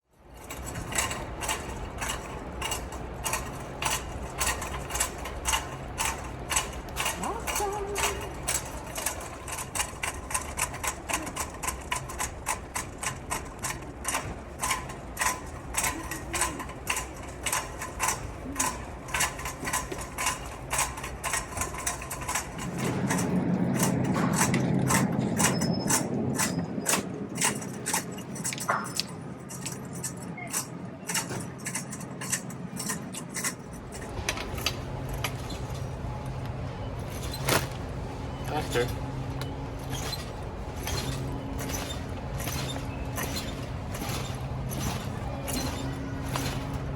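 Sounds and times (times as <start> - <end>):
rolling rumble: 0.1 - 46.9
shopping cart wheel clunking: 0.1 - 46.9.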